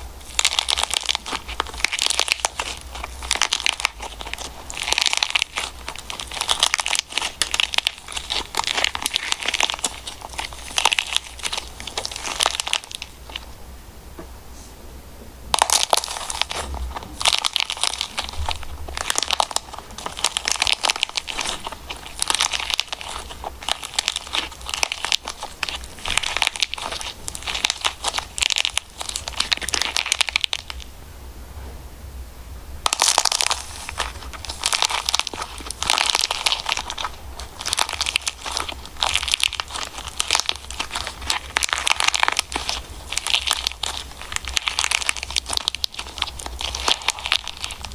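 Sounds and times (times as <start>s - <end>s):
slime crackling and popping: 0.0s - 13.6s, 15.5s - 31.0s, 32.8s - 47.9s.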